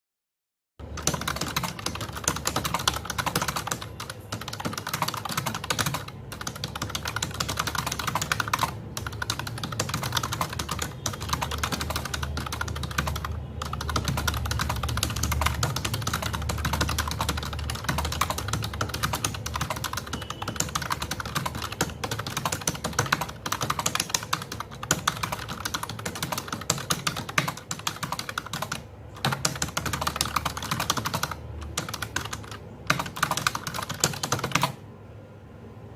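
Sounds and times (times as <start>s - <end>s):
fast typing on keyboard: 0.8s - 34.8s.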